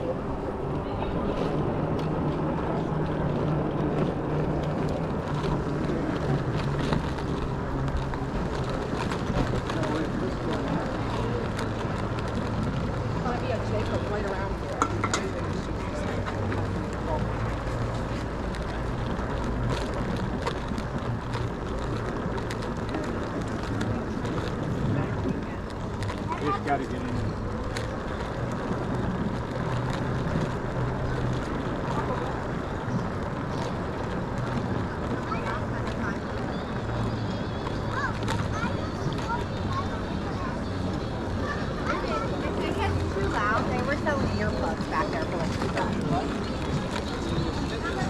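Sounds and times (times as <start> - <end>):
constant rushing noise: 0.0 - 48.0
e-bike rumbling ride noise: 0.0 - 48.0
low vehicle hum: 0.0 - 48.0.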